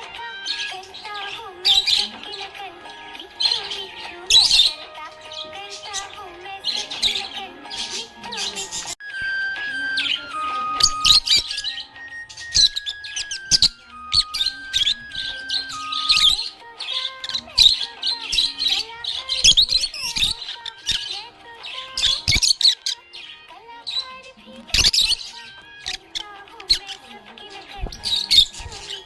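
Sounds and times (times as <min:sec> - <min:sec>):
background music melody: 0:00.0 - 0:29.0
budgerigars chirping and warbling: 0:00.0 - 0:29.0.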